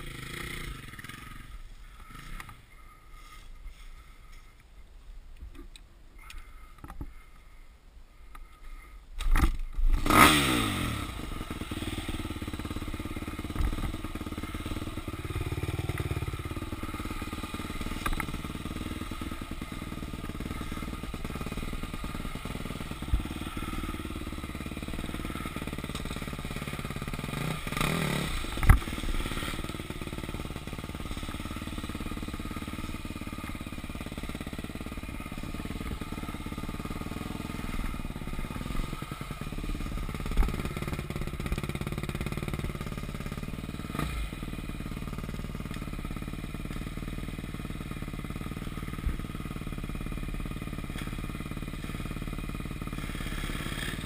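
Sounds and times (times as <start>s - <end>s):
motorcycle engine at low revs: 0.0s - 4.5s, 8.2s - 54.0s.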